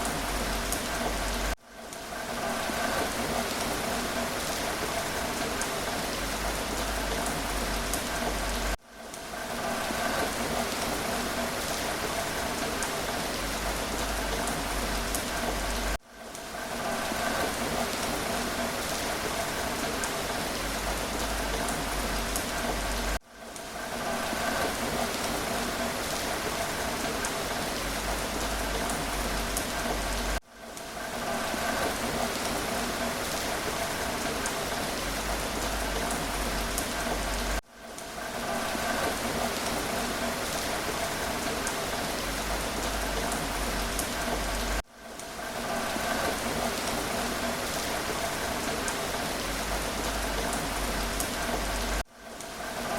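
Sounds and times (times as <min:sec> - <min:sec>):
raindrops hitting surfaces: 0:00.0 - 0:52.9
steady rain hissing: 0:00.0 - 0:52.9.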